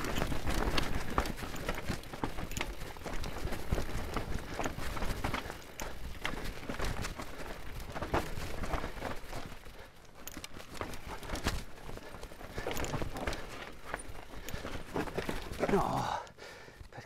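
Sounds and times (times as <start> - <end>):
bike clattering over rocks: 0.0 - 16.0.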